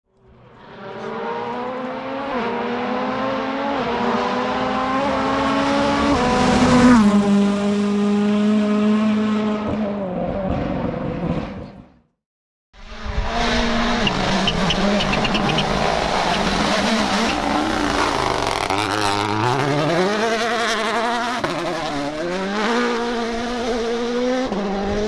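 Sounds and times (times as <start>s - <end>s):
rally car passing at speed: 0.4s - 11.8s, 12.8s - 25.0s.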